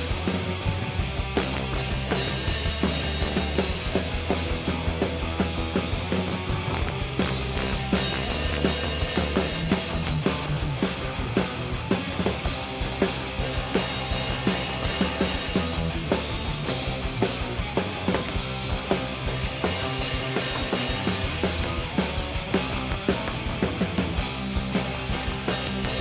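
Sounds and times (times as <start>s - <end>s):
driving drum beat: 0.0s - 26.0s
rock band playing: 0.0s - 26.0s.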